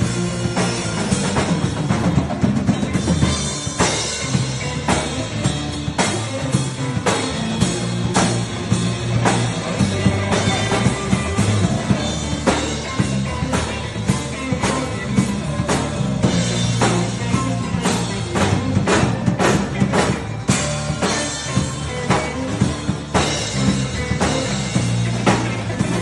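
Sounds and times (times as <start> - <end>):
rock music: 0.0 - 26.0.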